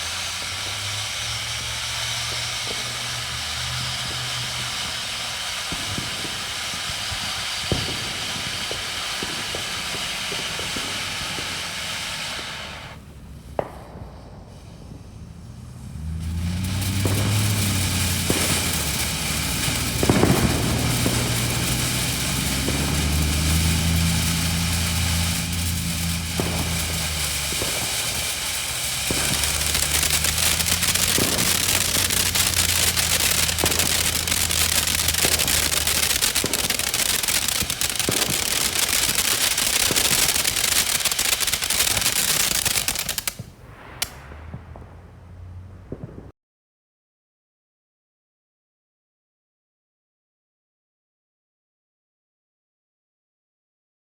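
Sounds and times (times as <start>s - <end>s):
firework fountain hissing and crackling: 0.0s - 46.3s.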